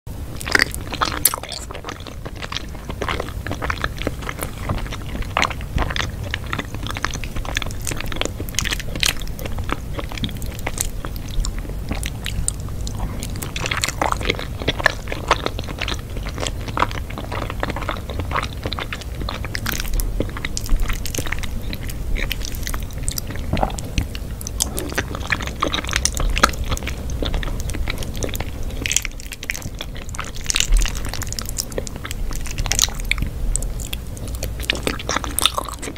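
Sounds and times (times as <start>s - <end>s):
person chewing crunchy food: 0.2s - 35.9s.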